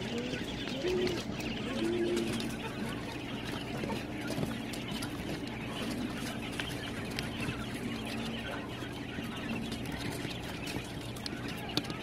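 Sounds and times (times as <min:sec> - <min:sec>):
quail chicks calling: 0:00.0 - 0:12.0
steady low hum: 0:00.0 - 0:12.0.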